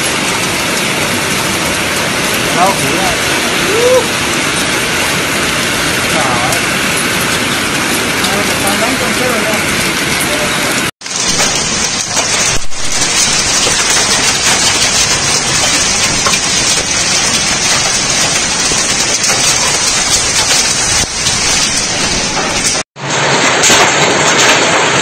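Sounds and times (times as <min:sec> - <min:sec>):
heavy rain and hail: 0:00.0 - 0:25.0.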